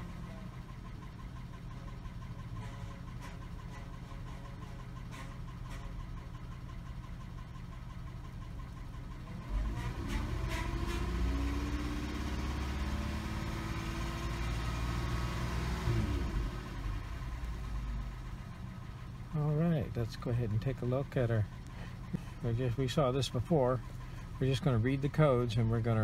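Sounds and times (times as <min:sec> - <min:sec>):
minivan engine idling: 0:00.0 - 0:26.0.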